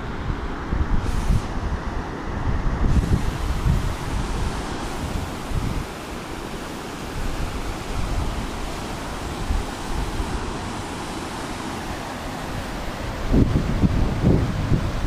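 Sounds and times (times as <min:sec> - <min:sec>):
wind buffeting microphone: 0:00.0 - 0:06.0, 0:07.0 - 0:15.0
whitewater rushing: 0:00.0 - 0:15.0.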